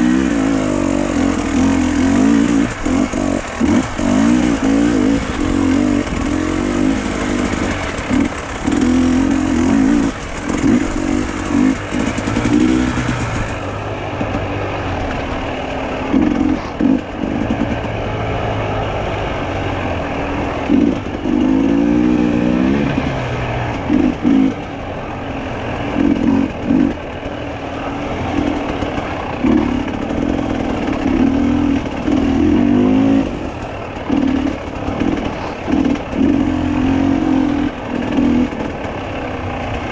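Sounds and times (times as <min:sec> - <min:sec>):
road noise: 0:00.0 - 0:39.9
vehicle engine revving: 0:00.0 - 0:39.9.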